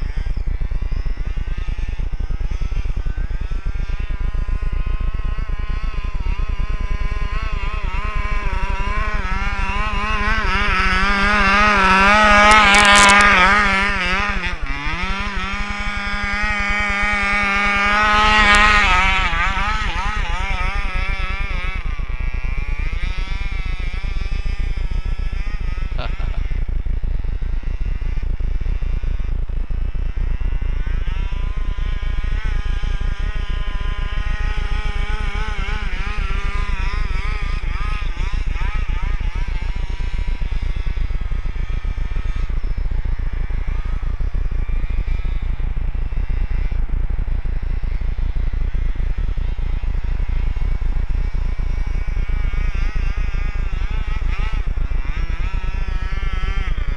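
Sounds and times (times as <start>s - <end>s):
two-stroke engine revving: 0.0s - 56.9s.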